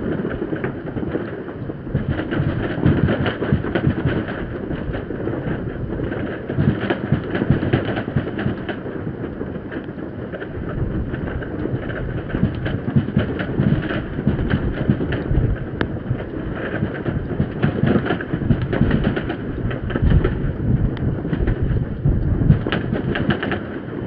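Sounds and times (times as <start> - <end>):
fireworks crackling and banging: 0.0 - 24.0
sharp firework crack: 0.0 - 24.0.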